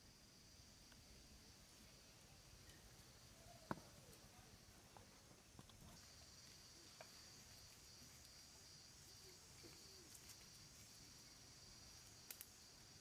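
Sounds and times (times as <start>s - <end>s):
faint insect drone: 0.0s - 13.0s.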